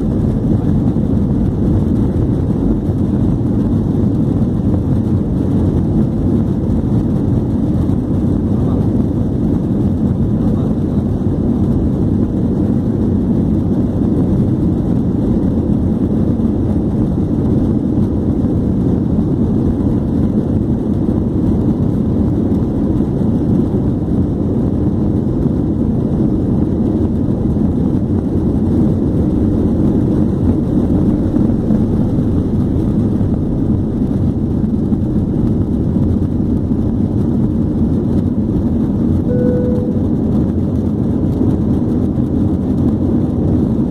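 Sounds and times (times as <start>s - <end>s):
jet engines rumbling in cabin: 0.0s - 43.9s.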